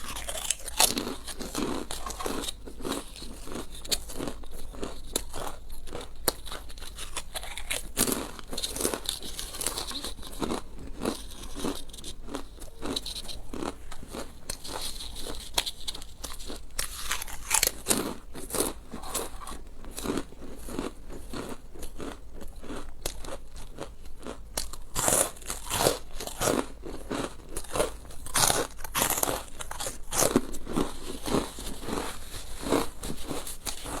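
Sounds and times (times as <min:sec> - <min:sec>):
chewing crunchy food: 0:00.0 - 0:34.0.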